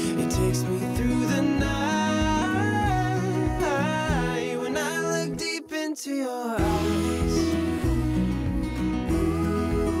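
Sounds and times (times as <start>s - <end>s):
low instrumental backing: 0.0s - 5.5s, 6.6s - 10.0s
person singing gentle song: 0.0s - 10.0s.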